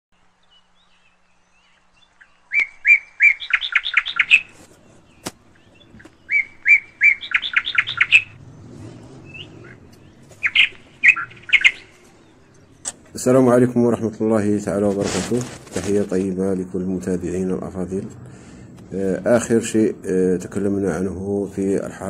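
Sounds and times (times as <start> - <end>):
bird chirping: 0.1 - 21.9.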